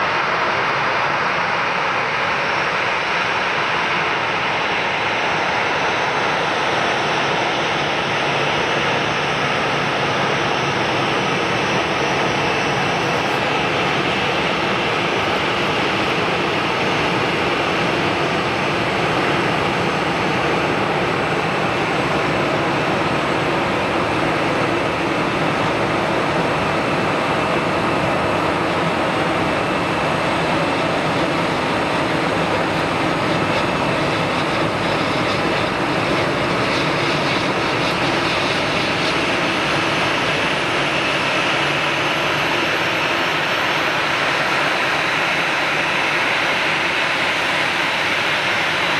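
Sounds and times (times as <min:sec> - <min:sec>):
jet engines idling: 0:00.0 - 0:48.9.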